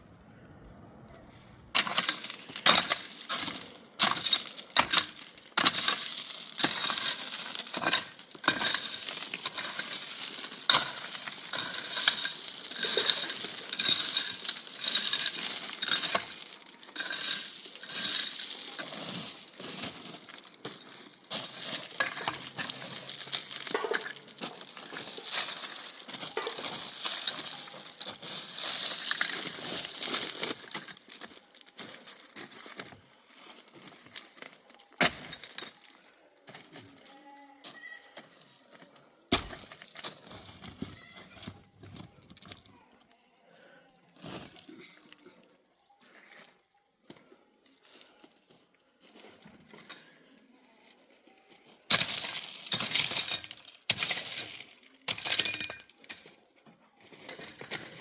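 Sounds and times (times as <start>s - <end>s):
hard objects clinking and scraping: 1.7s - 58.0s.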